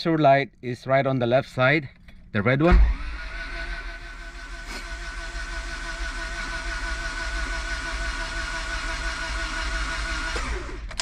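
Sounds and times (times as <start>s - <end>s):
starter motor cranking engine: 0.0s - 11.0s.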